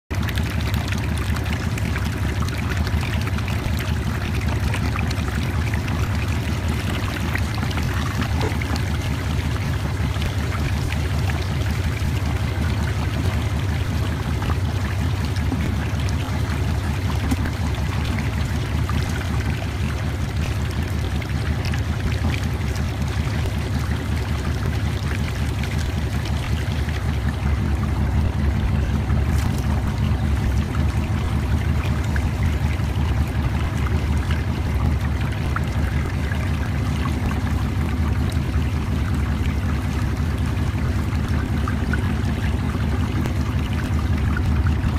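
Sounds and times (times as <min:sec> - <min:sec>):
steady low rumble: 0:00.1 - 0:44.9
water and sand pouring: 0:00.1 - 0:44.9
water running over deck: 0:00.1 - 0:44.9.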